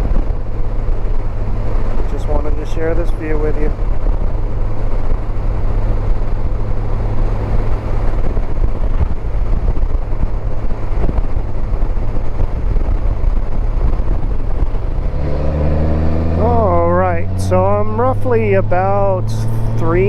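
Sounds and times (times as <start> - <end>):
motorcycle engine hum: 0.0 - 20.0
wind and road noise: 0.0 - 20.0.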